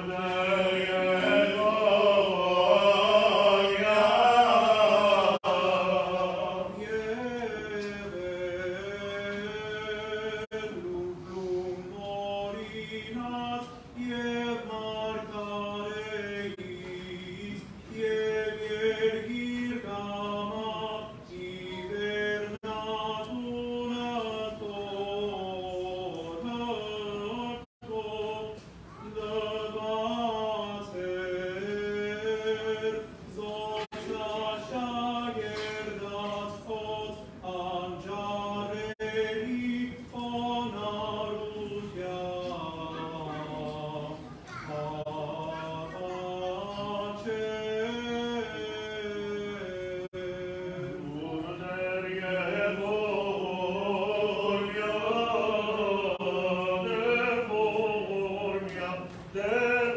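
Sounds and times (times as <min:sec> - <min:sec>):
men chanting a hymn: 0:00.0 - 0:59.9.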